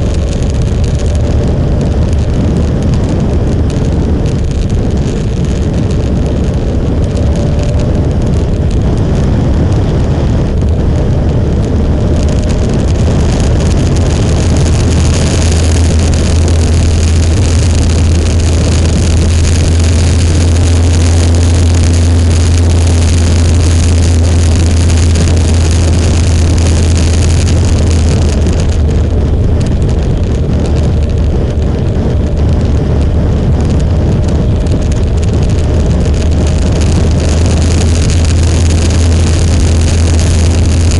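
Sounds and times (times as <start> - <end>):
motorcycle engine and road rumble: 0.0 - 40.9
wind rush on microphone: 0.0 - 40.9.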